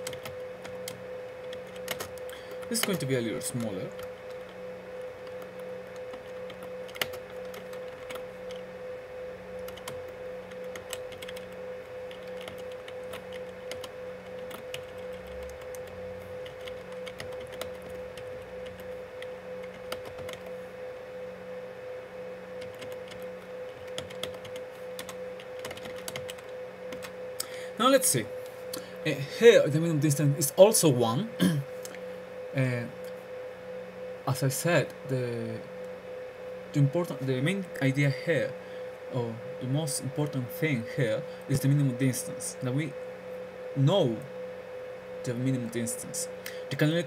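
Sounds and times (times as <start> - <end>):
electrical hum: 0.0 - 47.0
low pulsing drone: 0.0 - 47.0.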